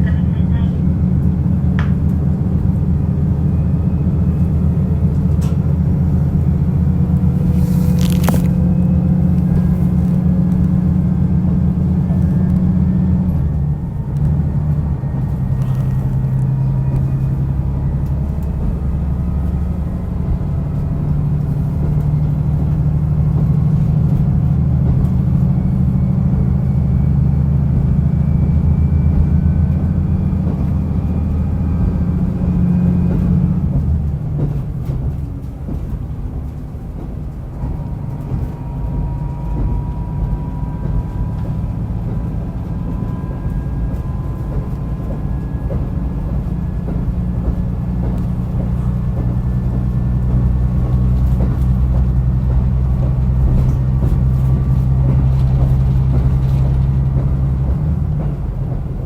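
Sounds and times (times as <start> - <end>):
diesel railcar engine droning: 0.0 - 59.0.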